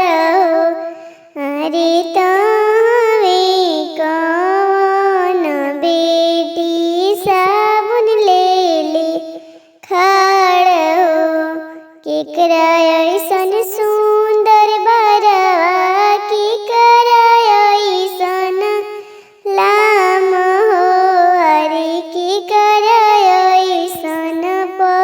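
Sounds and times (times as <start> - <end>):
young woman singing unaccompanied: 0.0 - 25.0.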